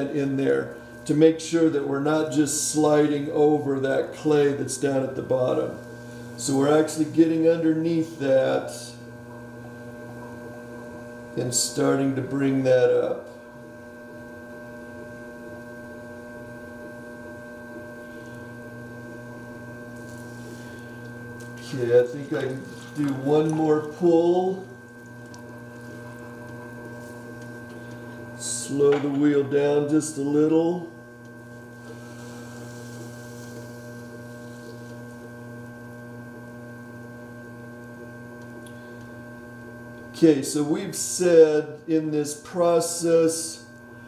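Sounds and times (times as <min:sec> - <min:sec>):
potter's wheel motor hum: 0:00.0 - 0:44.0.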